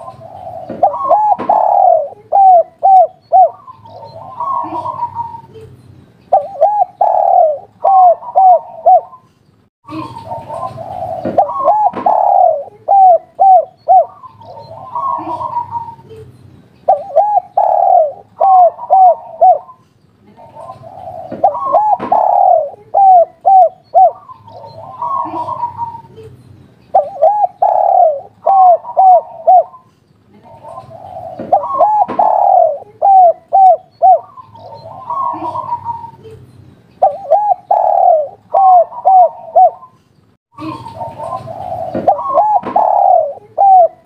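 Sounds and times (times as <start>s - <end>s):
dove cooing: 0.0s - 9.3s, 9.9s - 16.3s, 16.9s - 26.3s, 26.9s - 36.4s, 37.0s - 40.0s, 40.6s - 44.0s.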